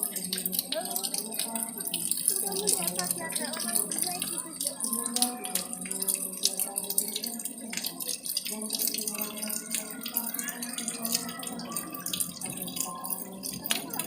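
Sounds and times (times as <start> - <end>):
water dripping and pattering: 0.0 - 14.0.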